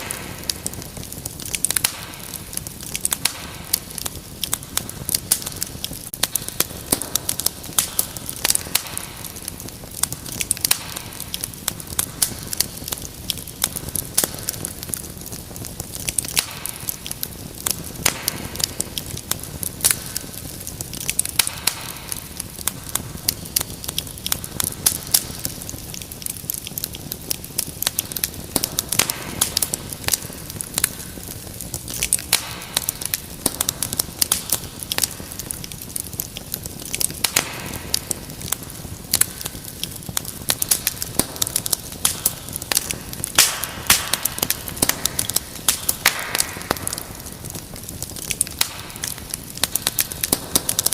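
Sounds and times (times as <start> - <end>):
rumble of flames: 0.0 - 50.9
wood fire snaps and pops: 0.0 - 50.9.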